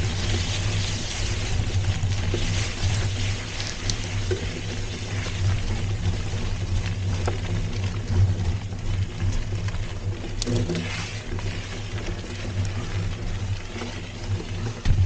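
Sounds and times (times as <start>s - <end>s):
bike clicks and rattles: 0.0s - 15.0s
bike tyres rumbling on dirt: 0.0s - 15.0s.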